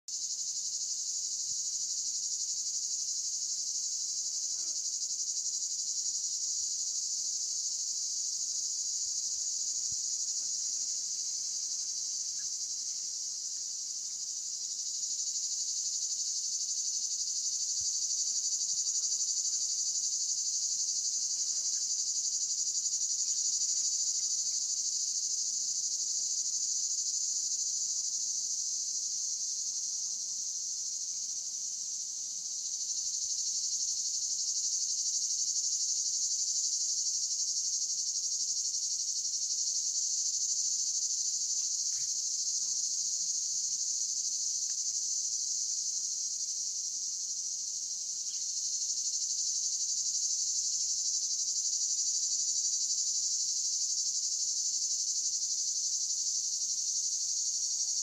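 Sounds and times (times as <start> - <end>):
cicadas buzzing: 0.2 - 58.0.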